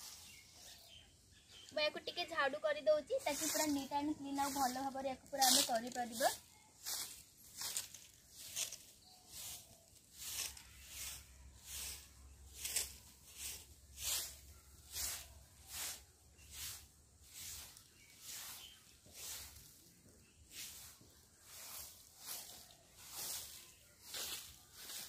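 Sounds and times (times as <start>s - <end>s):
broom sweeping dirt ground: 0.0s - 25.0s.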